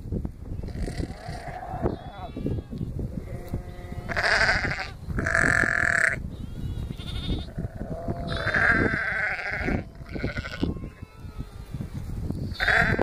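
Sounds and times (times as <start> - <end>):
sheep and lambs bleating: 0.6 - 11.9, 12.5 - 13.0.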